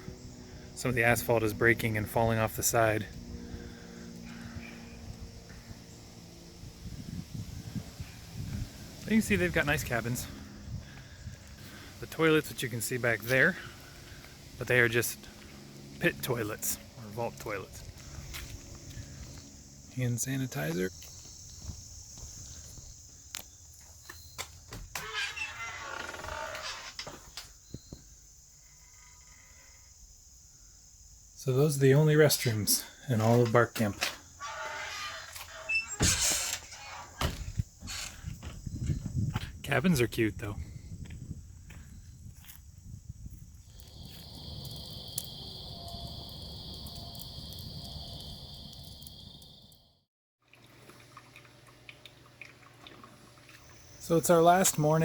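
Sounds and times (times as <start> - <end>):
insects chirring: 0.0 - 50.0, 50.6 - 55.0.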